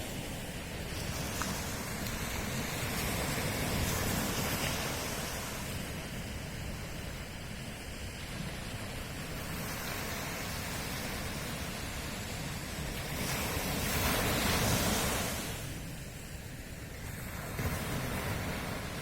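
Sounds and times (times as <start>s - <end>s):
ocean surf washing on shore: 0.0s - 19.0s.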